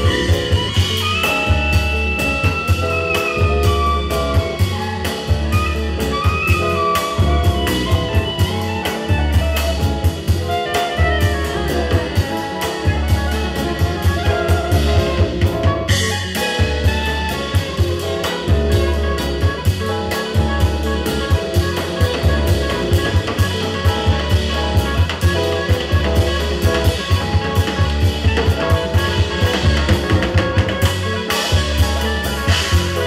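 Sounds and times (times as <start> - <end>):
drum kit: 0.0 - 33.0
electric bass: 0.0 - 33.0
soprano saxophone melody: 0.0 - 33.0.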